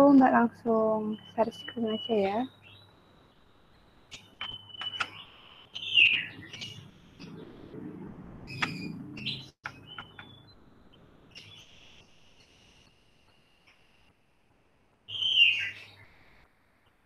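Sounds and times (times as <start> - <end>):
bird chirping: 0.0 - 7.7, 8.5 - 13.8, 15.1 - 17.0.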